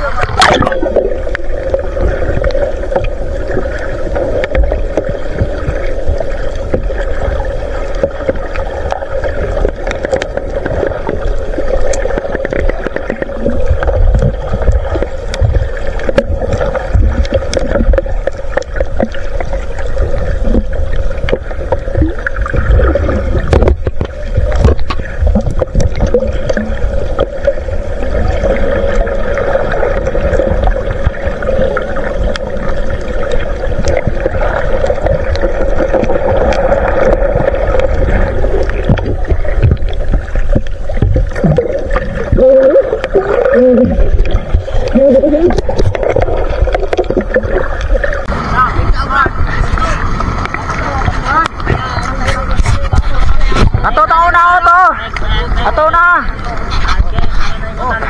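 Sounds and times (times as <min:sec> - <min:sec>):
bubbling: 0:00.0 - 0:58.0
muffled underwater water movement: 0:00.0 - 0:58.0.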